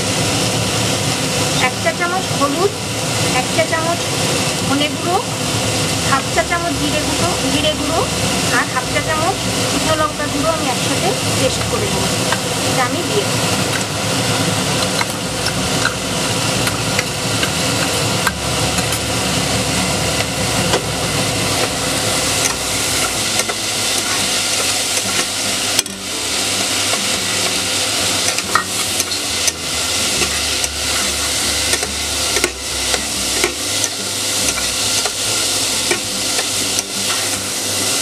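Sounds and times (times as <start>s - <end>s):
lentils sizzling in oil: 0.0s - 38.0s.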